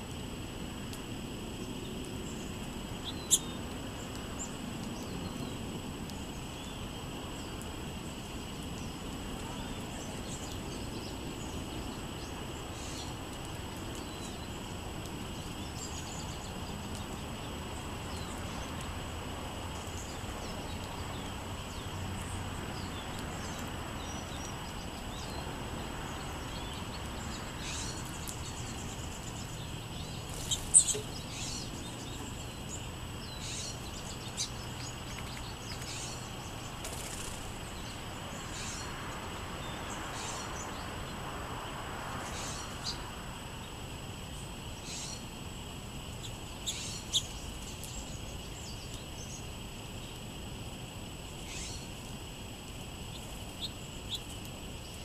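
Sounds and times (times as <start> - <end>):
outdoor background hiss: 0.0 - 55.0
songbirds chirping: 0.0 - 55.0.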